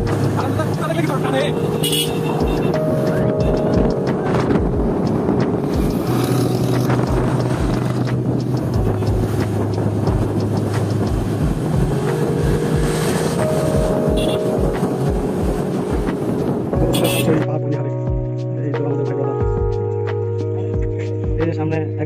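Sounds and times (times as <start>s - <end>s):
music with low beat and chords: 0.0s - 22.0s.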